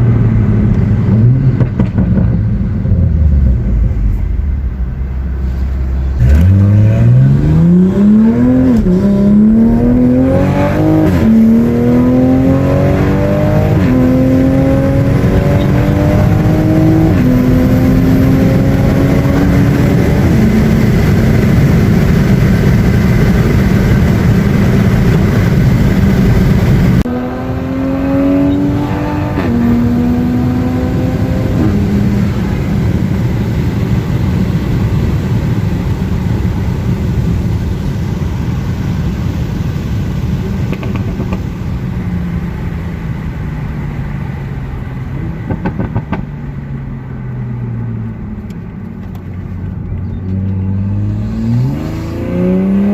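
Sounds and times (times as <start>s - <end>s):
car engine accelerating hard: 0.0s - 52.9s.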